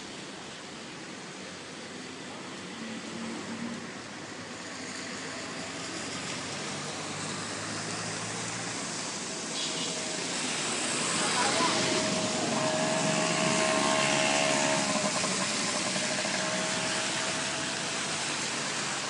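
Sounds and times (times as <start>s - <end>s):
tyre hiss on wet road: 0.0s - 19.0s.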